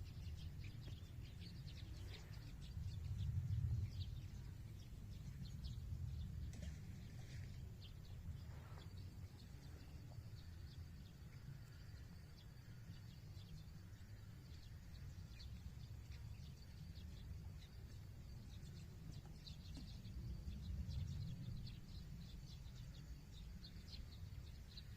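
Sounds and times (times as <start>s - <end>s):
small birds chirping: 0.0s - 24.9s
steady low rumble: 0.0s - 24.9s.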